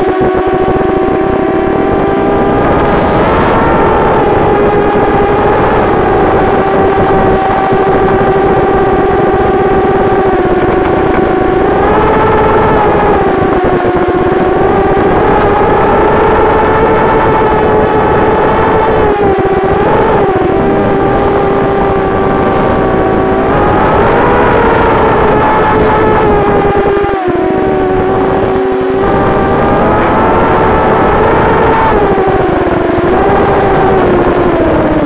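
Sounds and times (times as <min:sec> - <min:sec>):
drone motors and propellers whining: 0:00.0 - 0:35.0.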